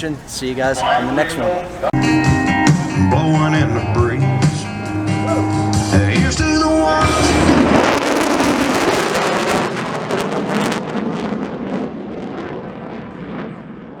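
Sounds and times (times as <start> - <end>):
jet aircraft roar: 0.0 - 14.0.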